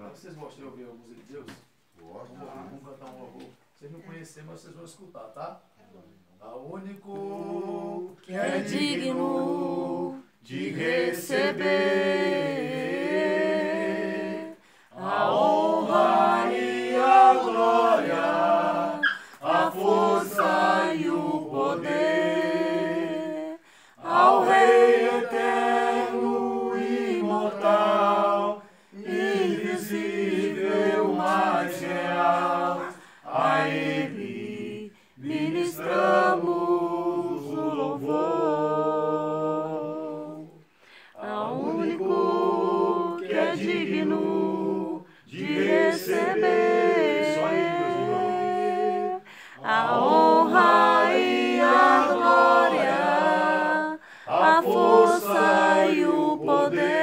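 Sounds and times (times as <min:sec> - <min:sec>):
group singing unaccompanied: 0:06.9 - 0:57.0.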